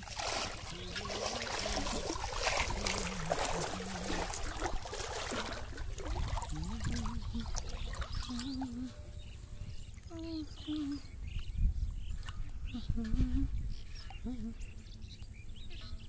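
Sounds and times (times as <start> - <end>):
wading through shallow water: 0.0 - 15.7.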